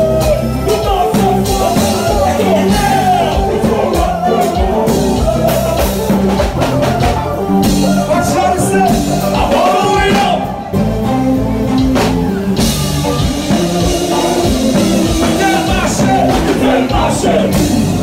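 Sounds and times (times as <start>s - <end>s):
person singing: 0.0s - 10.9s, 12.3s - 18.0s
live band music: 0.0s - 18.0s.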